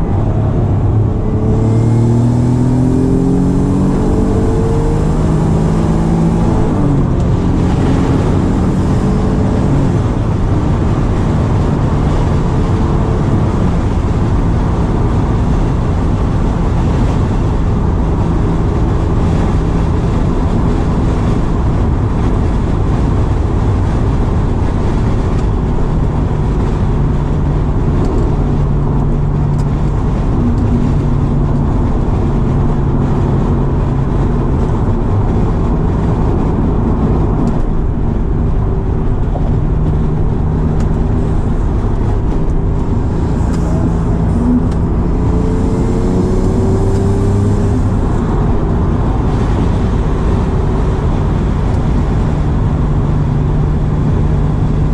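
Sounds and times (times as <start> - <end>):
car engine accelerating: 0.0 - 54.9
wind and road noise: 0.0 - 54.9.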